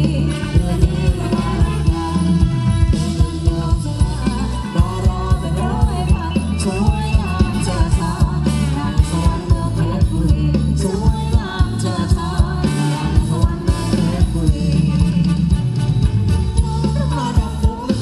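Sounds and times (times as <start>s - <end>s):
person singing: 0.0s - 15.8s, 16.4s - 18.0s
drum beat: 0.0s - 18.0s.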